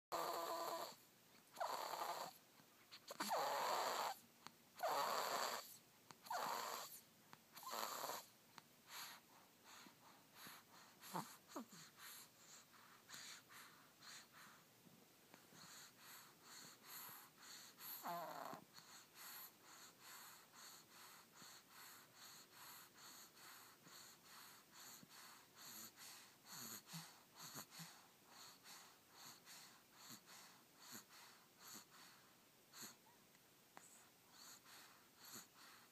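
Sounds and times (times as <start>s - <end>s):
faint rapid snoring: 0.1s - 2.4s, 3.0s - 4.2s, 4.8s - 7.0s, 7.6s - 14.6s, 15.4s - 33.1s, 33.8s - 35.9s.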